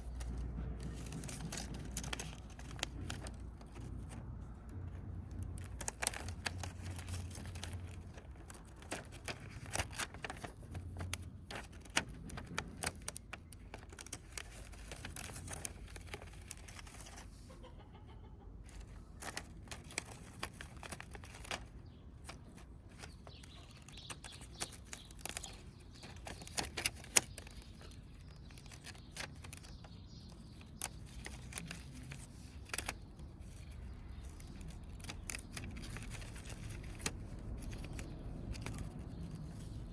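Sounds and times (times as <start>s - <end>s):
plastic parts clicking and rustling: 0.0s - 17.5s, 18.6s - 39.9s.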